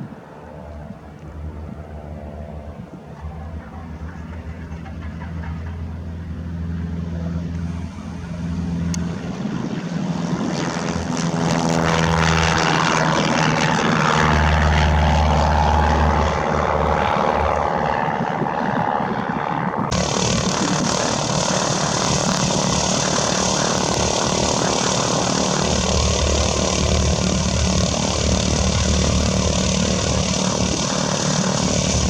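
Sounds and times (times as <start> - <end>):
propeller airplane engine hum: 0.0 - 32.0.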